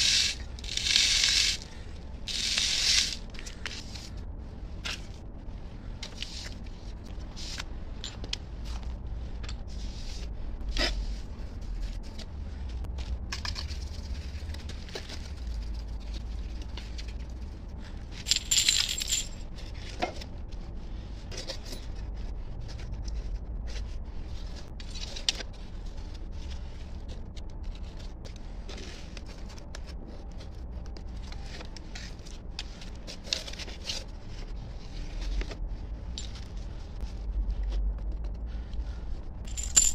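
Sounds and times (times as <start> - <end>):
steady low hum: 0.0 - 24.9, 25.5 - 39.9.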